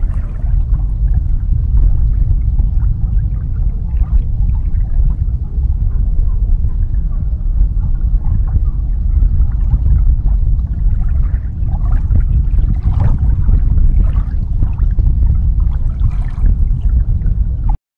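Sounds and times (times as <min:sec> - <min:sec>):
water splashing against boat hull: 0:00.0 - 0:17.8
wind rumble on microphone: 0:00.0 - 0:17.8.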